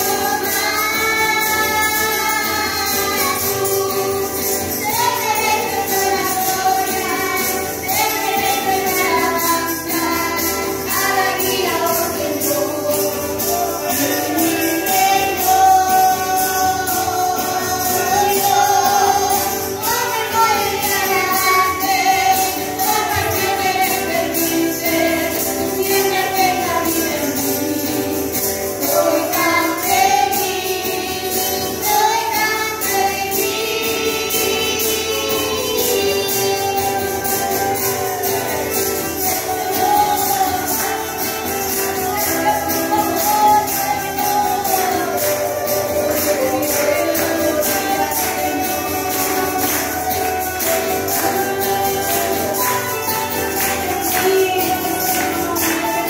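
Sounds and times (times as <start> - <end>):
choir singing a hymn: 0.0 - 56.0
guitar accompaniment: 0.0 - 56.0
tambourine beat: 0.0 - 56.0.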